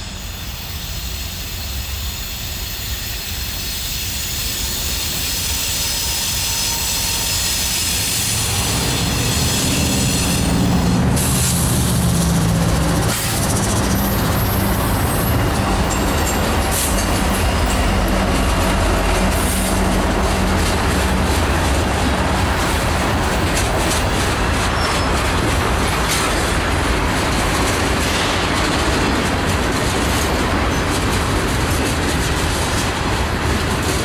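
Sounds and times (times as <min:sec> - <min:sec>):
diesel locomotive engine: 0:00.0 - 0:34.0
freight cars rolling on rails: 0:00.0 - 0:34.0.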